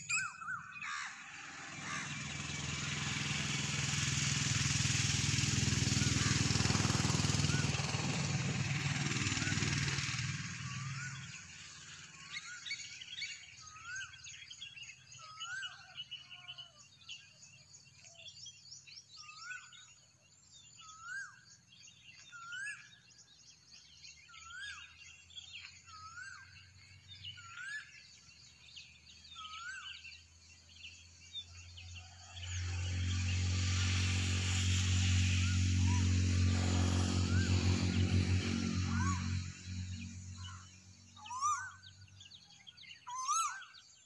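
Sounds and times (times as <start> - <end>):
birds chirping: 0.0 - 3.8, 5.5 - 44.0
motor engine: 0.0 - 43.7.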